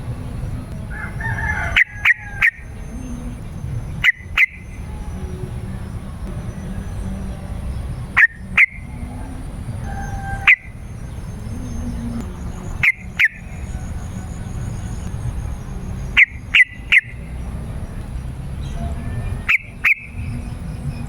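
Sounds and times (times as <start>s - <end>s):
bird calling sharp notes: 0.8s - 5.9s, 6.6s - 17.6s, 18.7s - 20.6s.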